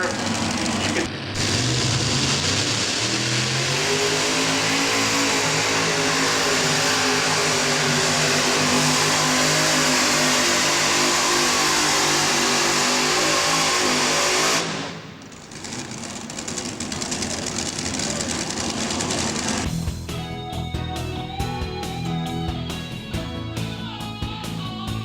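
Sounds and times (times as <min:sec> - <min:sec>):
loud tractor engine running: 0:00.0 - 0:20.6.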